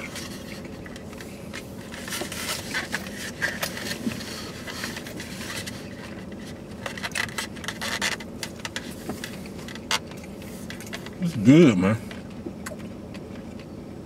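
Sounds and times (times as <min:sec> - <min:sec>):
low hum inside car: 0:00.0 - 0:14.0.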